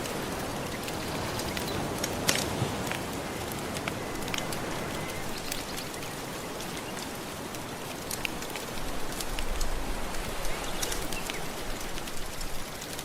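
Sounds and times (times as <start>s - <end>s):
fire crackling and popping: 0.0s - 13.0s
gentle ocean surf: 0.0s - 13.0s.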